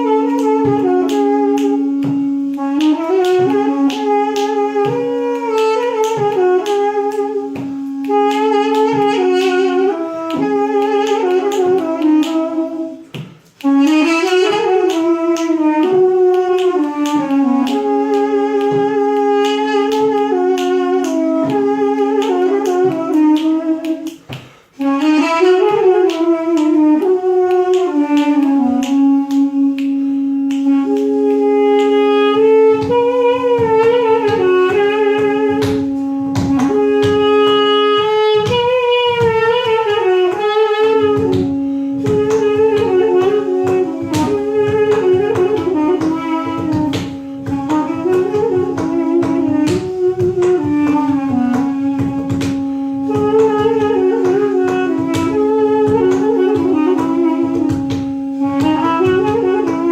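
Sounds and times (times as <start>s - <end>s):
ornamented double-reed pipe melody: 0.0s - 59.9s.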